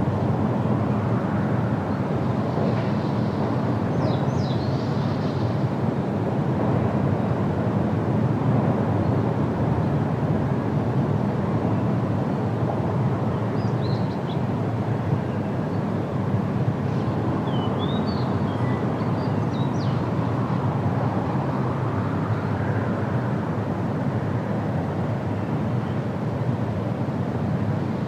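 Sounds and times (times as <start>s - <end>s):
wind rushing through trees: 0.0s - 28.0s.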